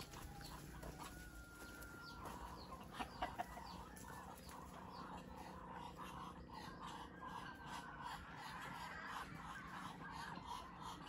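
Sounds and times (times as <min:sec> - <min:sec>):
birds chirping: 0:00.0 - 0:11.0
chickens clucking: 0:00.0 - 0:11.0.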